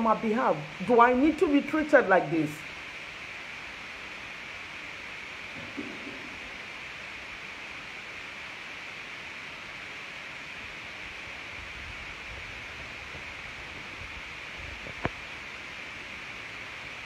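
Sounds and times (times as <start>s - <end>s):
air conditioner hissing: 0.0s - 17.0s.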